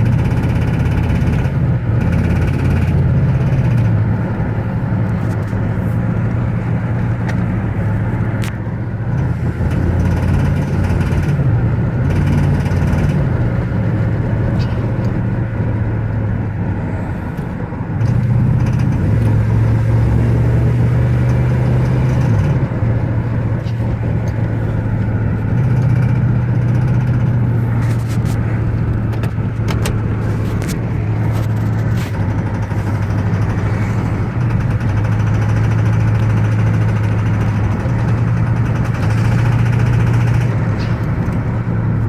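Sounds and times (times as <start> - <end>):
car engine hum from inside cabin: 0.0 - 42.0
engine knocking: 0.0 - 42.0.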